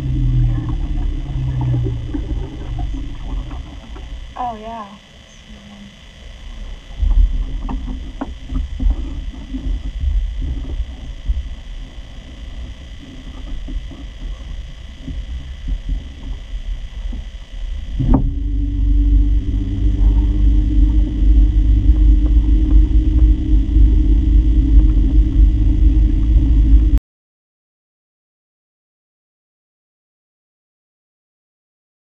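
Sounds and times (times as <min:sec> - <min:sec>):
small boat motor humming: 0:00.0 - 0:27.0
uneven low rumble: 0:00.0 - 0:27.0.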